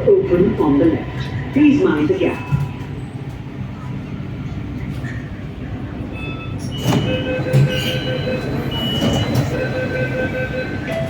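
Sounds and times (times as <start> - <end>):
low rumble of train: 0.0 - 11.0.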